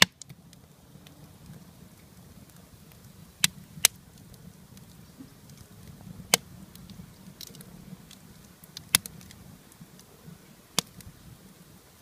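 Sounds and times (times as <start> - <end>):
sharp fire pops: 0.0 - 10.1, 10.7 - 11.2
campfire crackling: 0.0 - 12.0.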